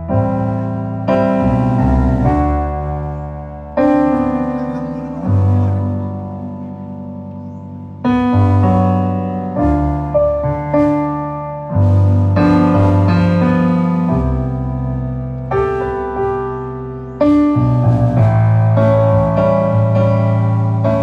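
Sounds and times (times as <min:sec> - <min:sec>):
keyboard piano chords: 0:00.0 - 0:21.0.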